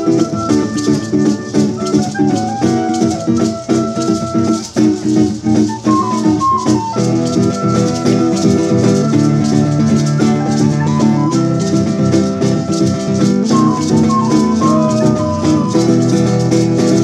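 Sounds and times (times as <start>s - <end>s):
acoustic guitar: 0.0s - 17.0s
maraca shaking: 0.0s - 17.0s
recorder melody: 0.0s - 17.0s.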